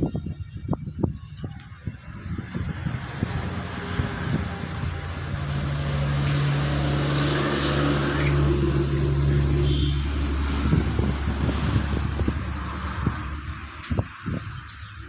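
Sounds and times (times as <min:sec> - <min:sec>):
engine hum: 0:01.6 - 0:15.0.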